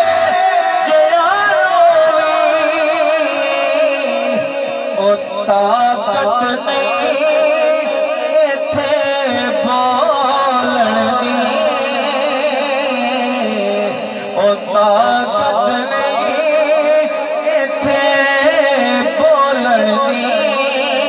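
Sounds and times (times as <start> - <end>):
man singing through loudspeakers: 0.0 - 21.0.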